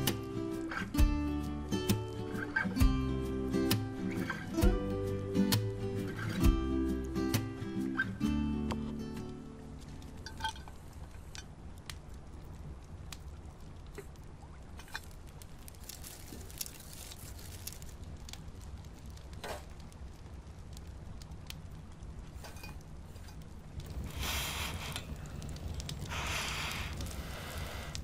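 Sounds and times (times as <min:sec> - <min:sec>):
burning charcoal crackling: 0:00.0 - 0:28.0
low steady hum: 0:00.0 - 0:28.0.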